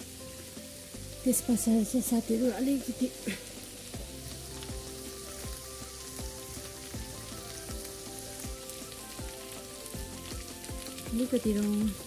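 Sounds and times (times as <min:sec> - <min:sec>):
background music with beat: 0:00.0 - 0:12.0
chicken sizzling in oil: 0:00.0 - 0:12.0.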